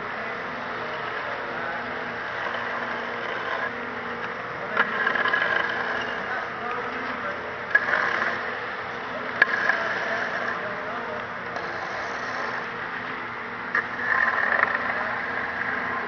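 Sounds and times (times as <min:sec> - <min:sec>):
pump and mixer droning: 0:00.0 - 0:16.0.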